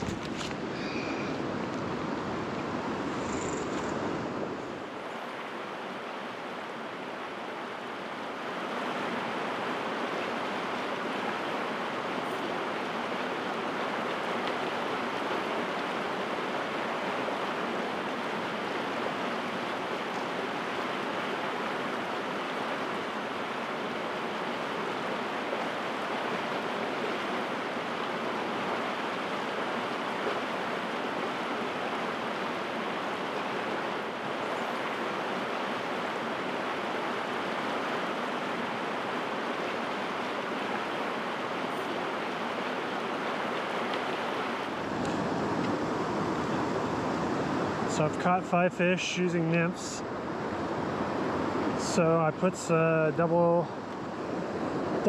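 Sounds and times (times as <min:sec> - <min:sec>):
river water running over rocks: 0:00.0 - 0:55.0.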